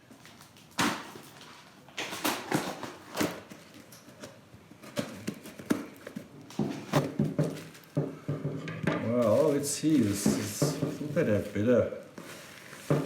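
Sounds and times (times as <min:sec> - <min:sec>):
cardboard parcel being opened: 0:00.1 - 0:08.0, 0:09.0 - 0:13.0.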